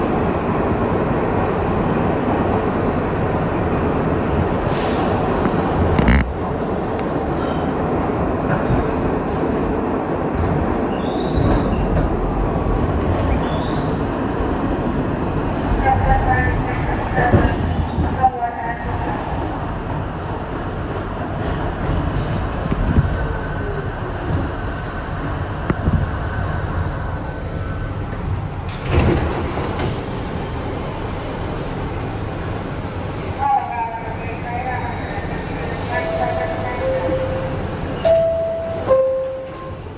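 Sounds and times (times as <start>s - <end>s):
subway train rumble: 0.0s - 39.9s.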